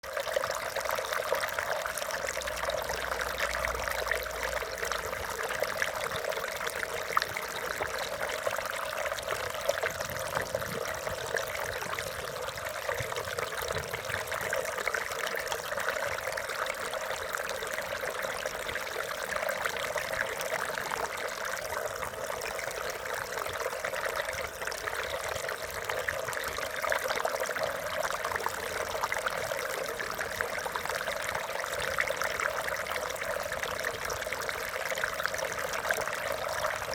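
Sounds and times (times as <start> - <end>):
stream babbling over rocks: 0.0 - 36.9.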